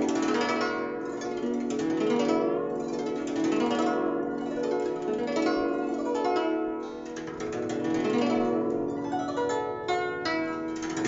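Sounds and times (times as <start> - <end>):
plucked zither notes: 0.0 - 11.0.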